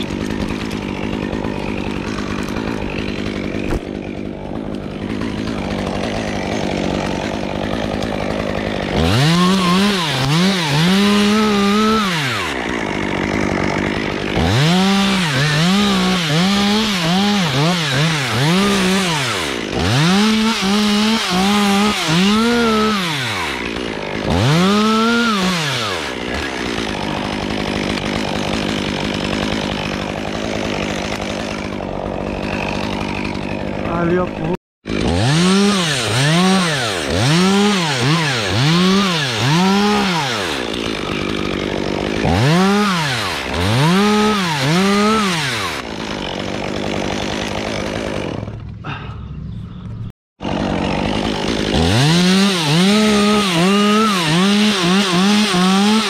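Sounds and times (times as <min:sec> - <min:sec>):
chainsaw revving: 0:00.0 - 0:49.1, 0:50.4 - 0:56.0.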